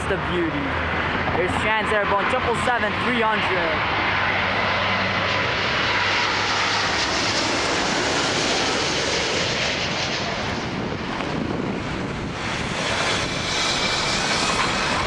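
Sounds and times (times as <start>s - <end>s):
jet airliner engine roar: 0.0s - 15.0s.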